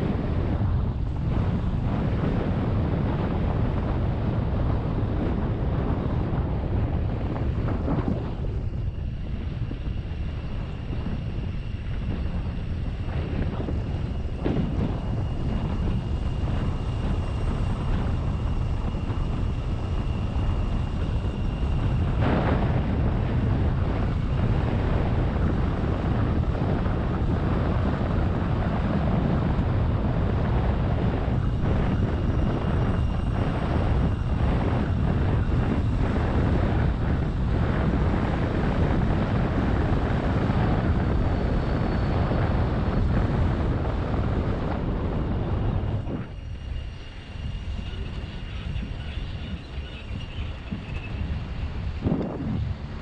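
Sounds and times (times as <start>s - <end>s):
vehicle engine and road noise: 0.0s - 53.0s
wind buffeting microphone: 0.0s - 53.0s.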